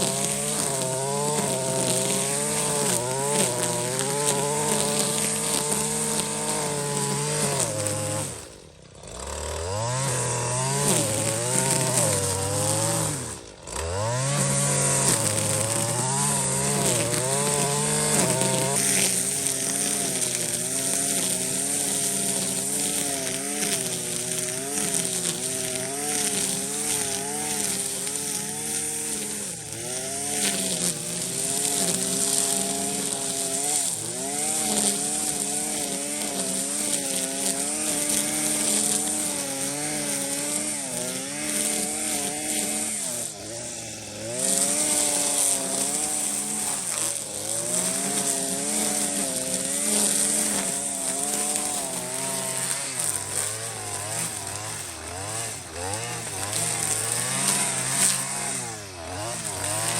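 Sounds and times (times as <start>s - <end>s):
small petrol engine revving: 0.0s - 59.9s.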